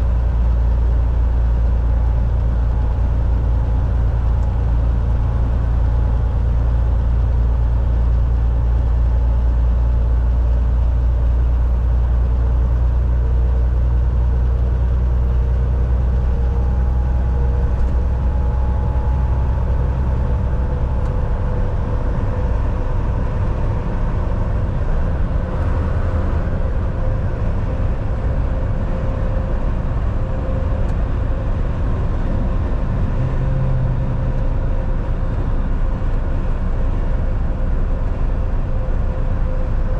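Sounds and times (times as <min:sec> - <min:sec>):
road and tyre noise: 0:00.0 - 0:39.9
truck engine drone: 0:00.0 - 0:39.9.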